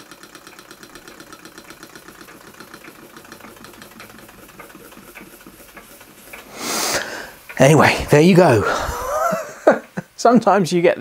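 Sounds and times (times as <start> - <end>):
steam engine exhaust puffs: 0.0 - 9.2.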